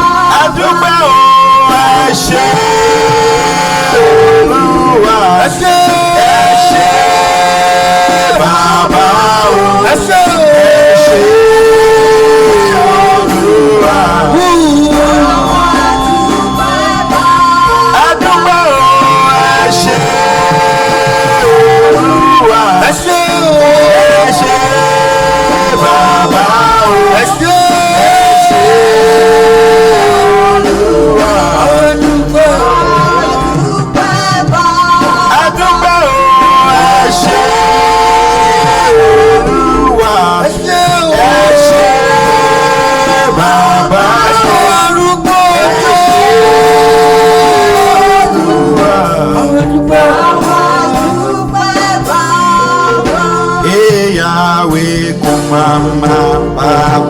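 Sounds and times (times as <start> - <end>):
praise band playing: 0.0 - 57.0
voices singing: 0.0 - 57.0.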